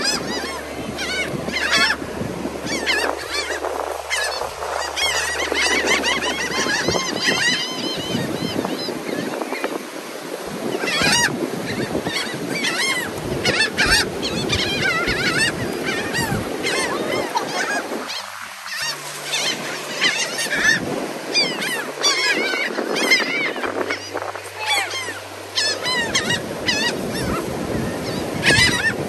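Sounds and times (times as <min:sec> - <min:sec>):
seagulls calling: 0:00.0 - 0:29.0.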